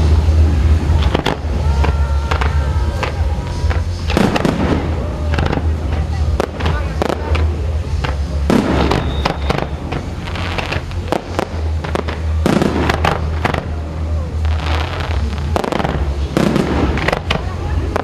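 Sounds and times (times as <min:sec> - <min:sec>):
firework crackling: 0:00.0 - 0:18.0
firework shells banging: 0:00.8 - 0:13.8, 0:14.5 - 0:18.0.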